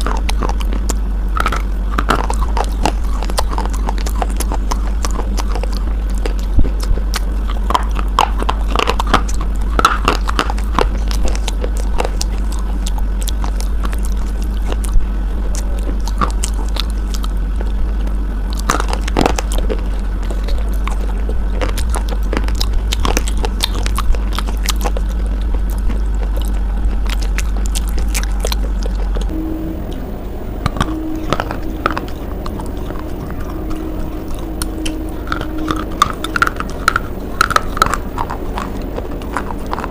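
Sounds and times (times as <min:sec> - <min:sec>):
crunchy biting and chewing: 0:00.0 - 0:29.4, 0:30.5 - 0:39.9
steady low hum: 0:00.0 - 0:39.9.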